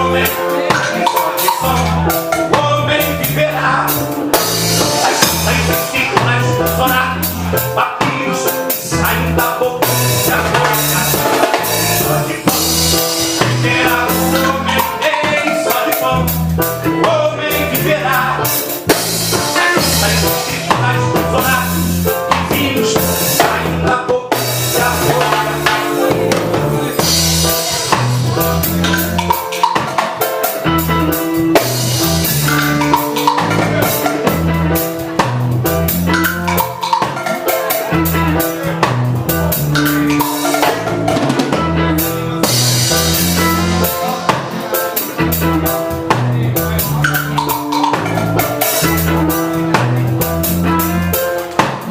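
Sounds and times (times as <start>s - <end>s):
drum rimshots: 0.0s - 51.9s
reggae band playing: 0.0s - 51.9s
repeating bass line: 0.0s - 51.9s.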